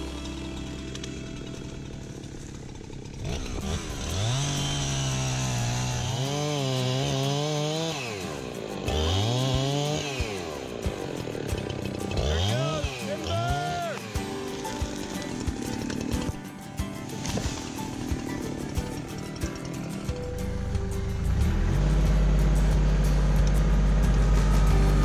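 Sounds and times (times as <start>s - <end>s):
chainsaw idling and revving: 0.0s - 16.4s, 17.1s - 25.0s.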